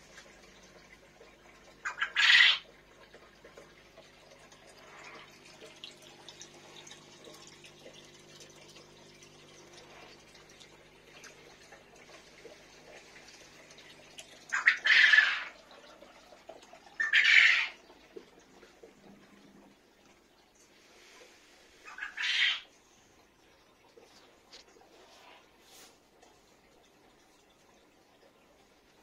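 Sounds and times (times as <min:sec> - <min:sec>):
faint water trickle: 0:00.0 - 0:29.0
water pouring into aquarium: 0:00.0 - 0:29.0.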